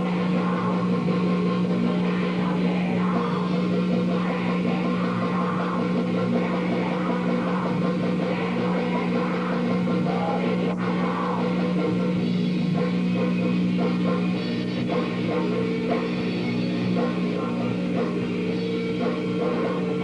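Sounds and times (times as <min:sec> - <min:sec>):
drum kit: 0:00.0 - 0:20.0
electric guitars: 0:00.0 - 0:20.0.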